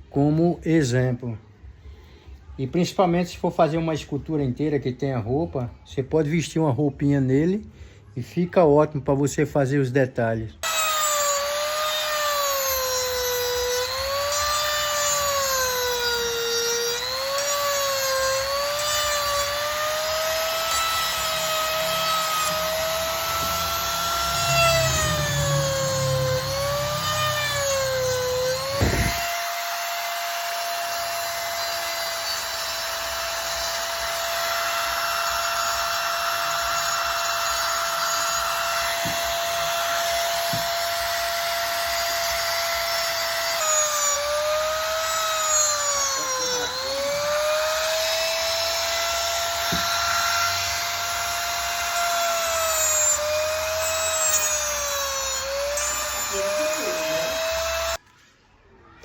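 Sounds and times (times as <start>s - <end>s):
power tool carving wood: 10.6s - 58.0s.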